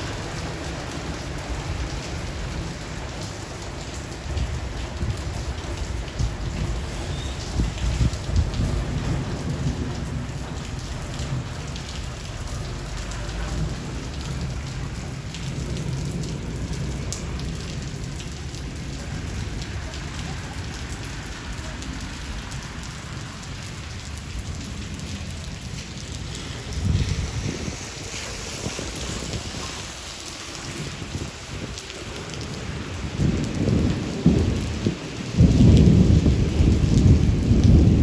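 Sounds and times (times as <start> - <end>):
heavy rain: 0.0 - 38.0
distant thunder rumble: 4.2 - 38.0.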